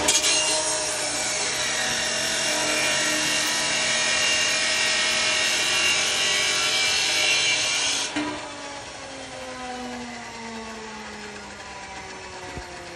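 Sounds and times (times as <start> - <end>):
cut-off saw grinding metal: 0.0 - 12.0
motor hum: 0.0 - 12.9.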